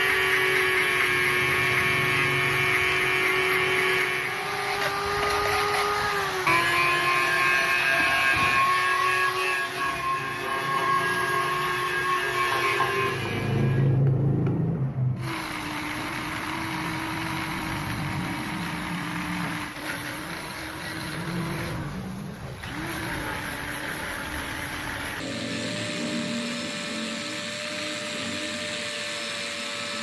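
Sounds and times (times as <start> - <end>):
power tool motor grinding: 0.0 - 14.1, 15.2 - 30.0.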